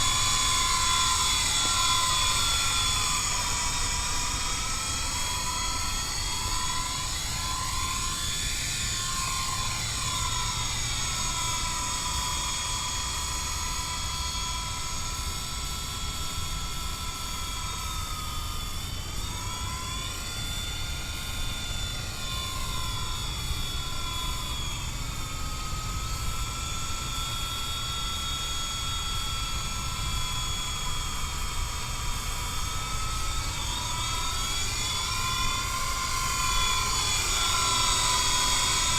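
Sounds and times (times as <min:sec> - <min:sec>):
toy helicopter motor whining: 0:00.0 - 0:38.9.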